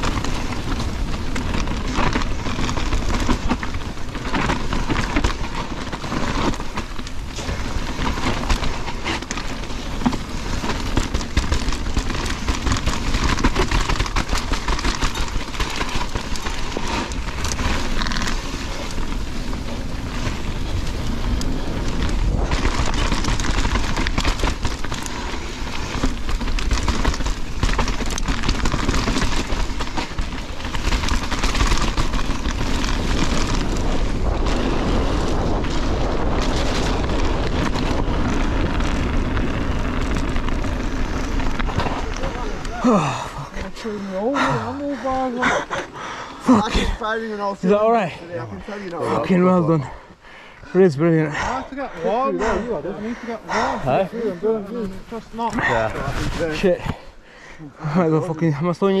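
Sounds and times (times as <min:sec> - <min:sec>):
bike rattling: 0:00.0 - 0:59.0
bike tyres over stones: 0:00.0 - 0:59.0.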